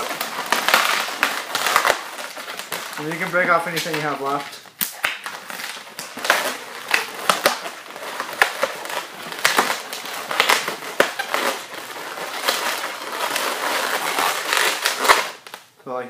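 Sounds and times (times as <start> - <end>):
balloons squeaking and rubbing: 0.0 - 15.6.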